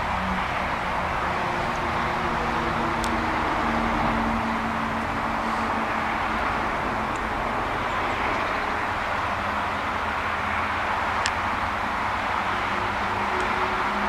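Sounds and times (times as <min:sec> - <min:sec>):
outdoor rushing noise: 0:00.0 - 0:14.0.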